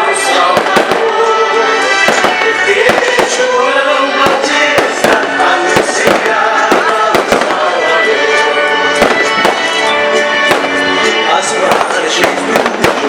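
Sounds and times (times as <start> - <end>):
firecrackers banging: 0.0 - 13.0
loud music: 0.0 - 13.0.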